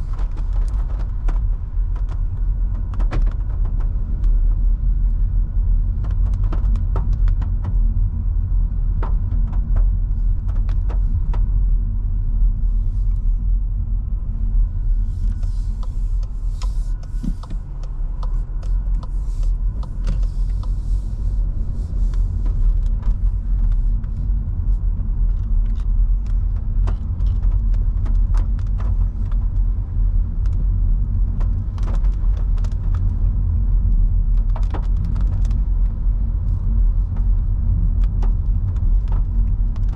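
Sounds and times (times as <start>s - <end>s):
engine and road rumble: 0.0s - 39.9s
windscreen wipers sweeping: 0.0s - 39.9s.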